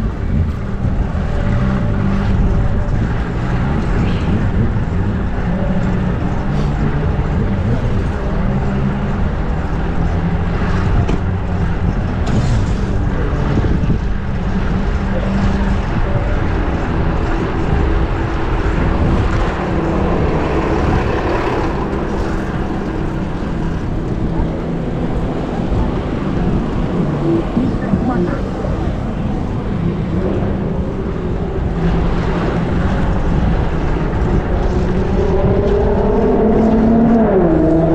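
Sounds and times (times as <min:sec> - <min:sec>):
road noise rushing: 0:00.0 - 0:37.9
vehicle engine running: 0:00.0 - 0:37.9.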